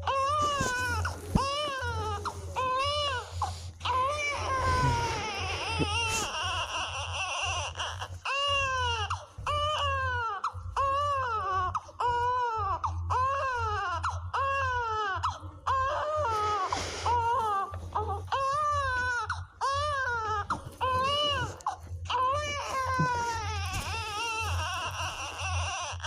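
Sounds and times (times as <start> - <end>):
baby crying: 0.0 - 26.0.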